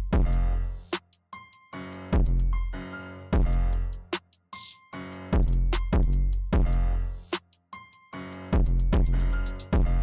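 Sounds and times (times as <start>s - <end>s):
electronic hip-hop beat: 0.0s - 2.6s, 3.4s - 10.0s.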